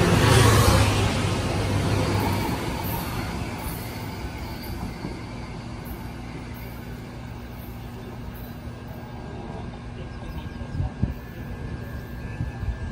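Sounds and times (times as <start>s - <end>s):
electric train pulling away: 0.0s - 12.9s.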